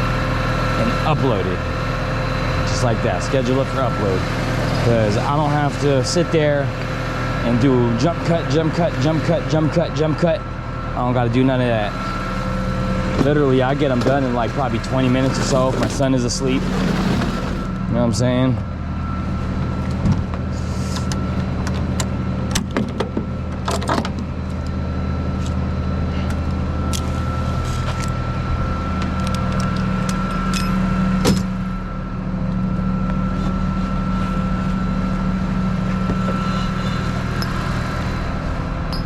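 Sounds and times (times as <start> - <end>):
faint constant whine: 0.0 - 39.0
truck engine and road drone: 0.0 - 39.0.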